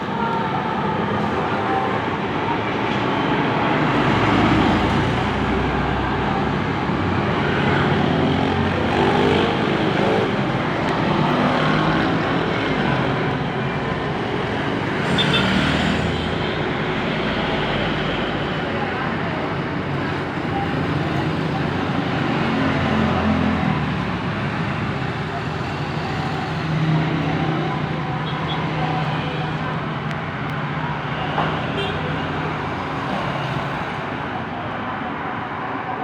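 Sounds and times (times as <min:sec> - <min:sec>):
road traffic noise: 0:00.0 - 0:36.0
vehicles passing: 0:00.0 - 0:36.0.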